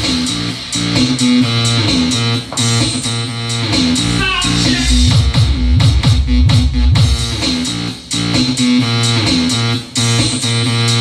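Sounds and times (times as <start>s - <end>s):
loud guitar music with bass: 0.0s - 11.0s.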